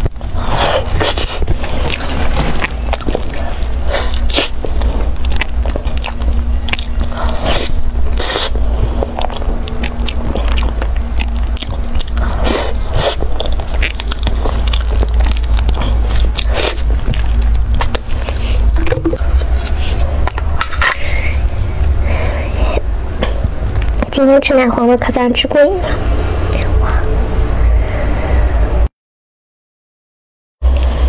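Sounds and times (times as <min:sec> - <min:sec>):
chewing pastry mouth sounds: 0:00.2 - 0:24.2, 0:26.0 - 0:27.5.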